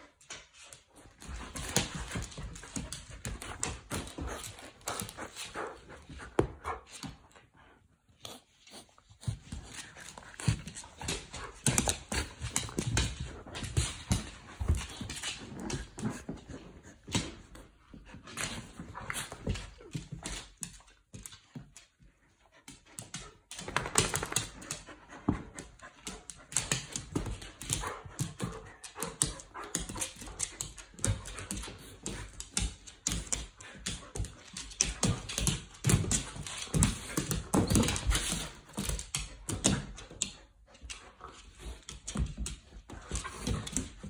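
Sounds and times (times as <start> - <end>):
dogs play-fighting: 0.0 - 44.0.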